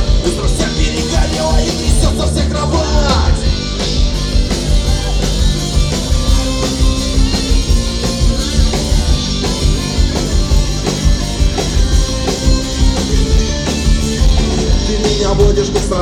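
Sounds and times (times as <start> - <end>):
drum kit beat: 0.0 - 16.0
guitars: 0.0 - 16.0
rock band playing: 0.0 - 16.0.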